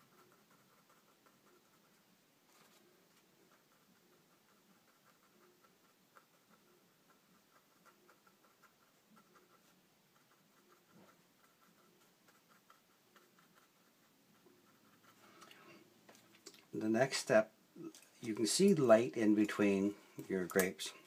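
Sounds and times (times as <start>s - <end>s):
paintbrush dabbing ticks: 0.0s - 17.2s.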